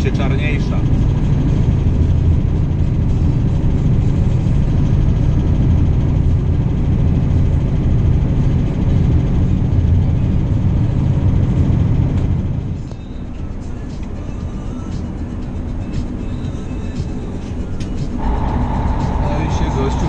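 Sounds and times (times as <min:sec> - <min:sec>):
diesel truck engine droning: 0:00.0 - 0:20.0
road noise: 0:00.0 - 0:20.0.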